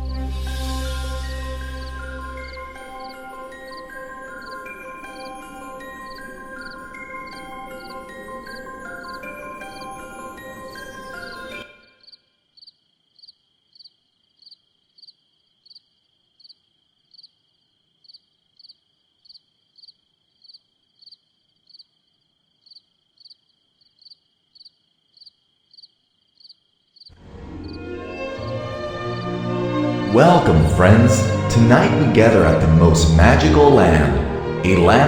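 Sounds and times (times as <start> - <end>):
high insect trill: 0.0 - 11.4, 12.0 - 29.4
crickets chirping: 0.0 - 29.5.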